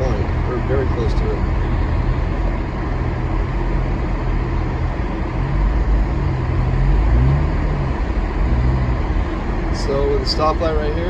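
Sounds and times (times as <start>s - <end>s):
car engine drone inside cabin: 0.0s - 11.0s
tyres on snowy road: 0.0s - 11.0s.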